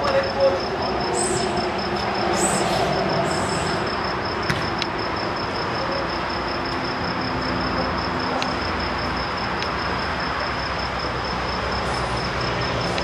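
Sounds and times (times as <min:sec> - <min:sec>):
high whine: 0:00.0 - 0:13.0.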